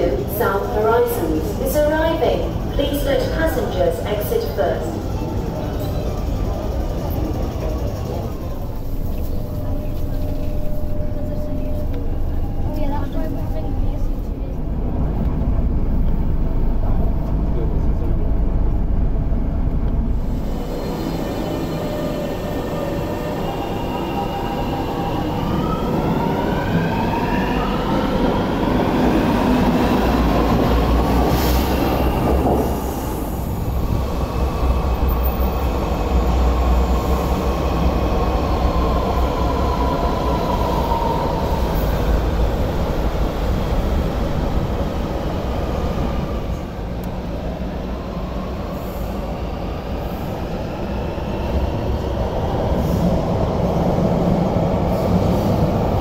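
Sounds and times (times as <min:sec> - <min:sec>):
train rumbling on elevated track: 0:00.0 - 0:56.0.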